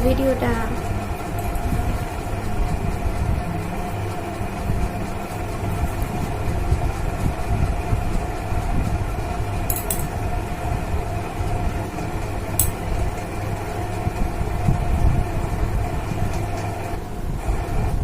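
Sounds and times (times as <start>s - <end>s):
constant tone: 0.0s - 17.2s
mechanical hum: 0.0s - 18.0s.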